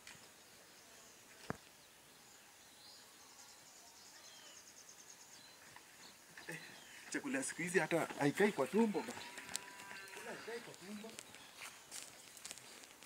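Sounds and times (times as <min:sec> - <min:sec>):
faint high chirping: 0:02.2 - 0:12.8.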